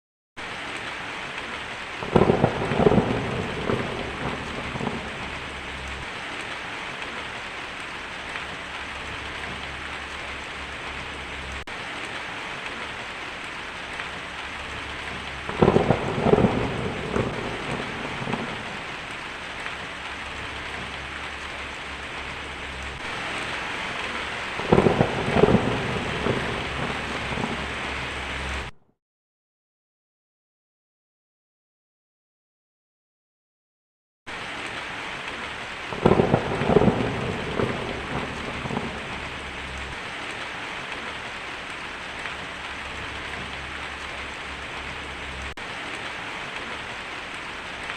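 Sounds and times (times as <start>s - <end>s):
heavy rain on a tin roof: 0.4s - 28.8s, 34.3s - 47.9s
thunder rumbling: 0.7s - 11.7s, 12.5s - 28.7s, 35.3s - 46.9s.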